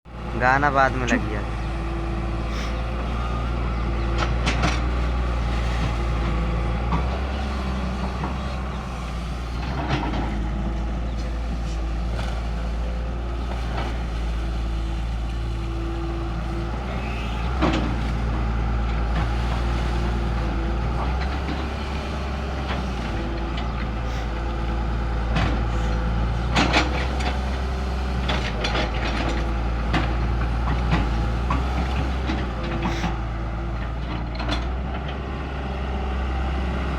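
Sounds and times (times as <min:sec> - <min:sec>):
heavy diesel engines running: 0:00.0 - 0:36.9.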